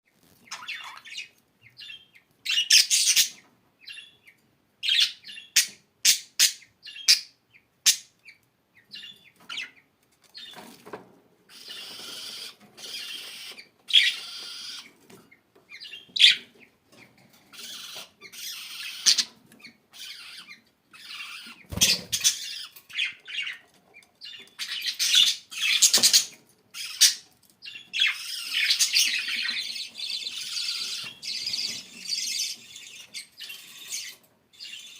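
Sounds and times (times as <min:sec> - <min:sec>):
budgerigars chirping and squawking: 0:00.3 - 0:34.9.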